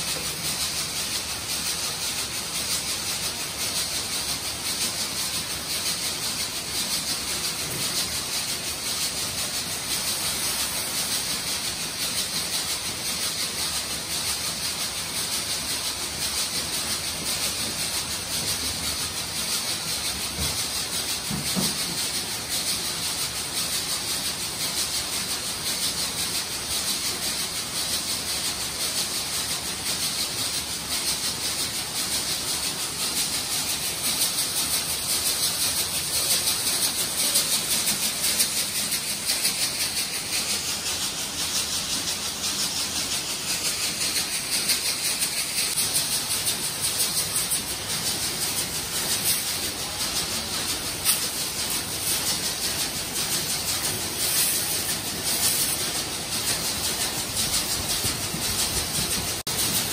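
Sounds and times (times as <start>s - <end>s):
workshop machinery running: 0.0s - 59.9s.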